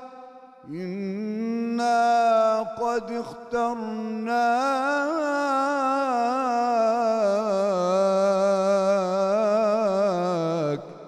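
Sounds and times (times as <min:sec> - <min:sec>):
man chanting unaccompanied: 0:00.0 - 0:11.0.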